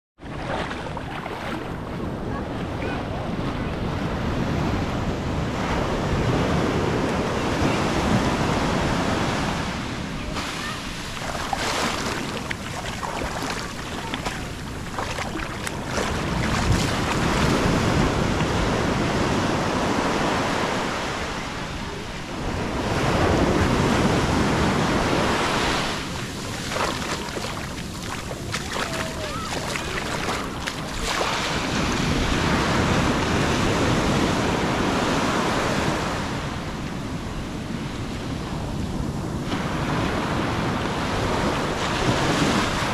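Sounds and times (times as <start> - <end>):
waves washing on beach: 0.2 - 42.9.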